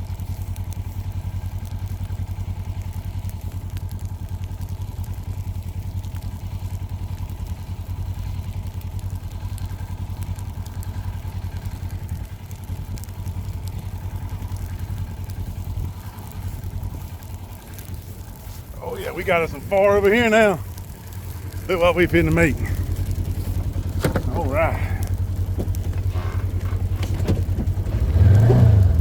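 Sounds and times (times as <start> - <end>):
small vehicle engine running: 0.0 - 29.0.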